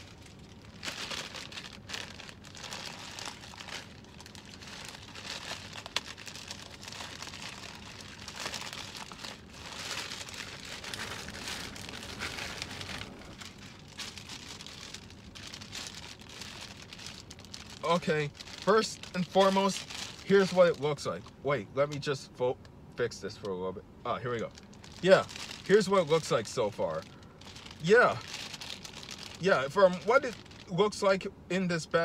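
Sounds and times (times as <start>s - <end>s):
plastic bag crinkling: 0.0s - 21.3s, 24.4s - 30.8s.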